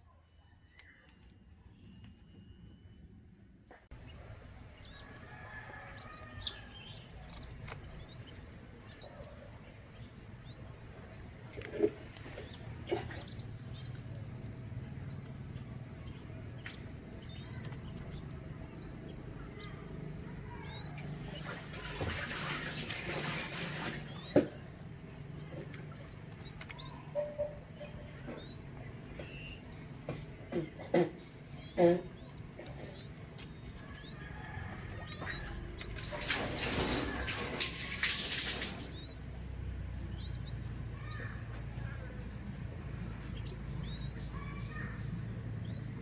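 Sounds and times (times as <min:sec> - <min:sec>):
bird chirping: 0:03.9 - 0:46.0.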